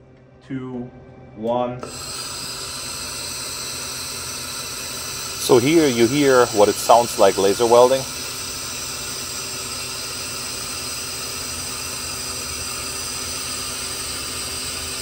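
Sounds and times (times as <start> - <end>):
laser welder hissing: 1.8 - 15.0.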